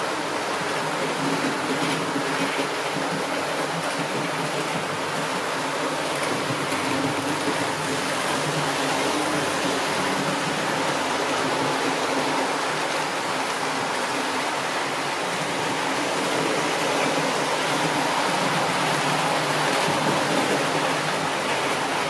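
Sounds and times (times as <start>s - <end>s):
model trains whirring on track: 0.0s - 22.0s.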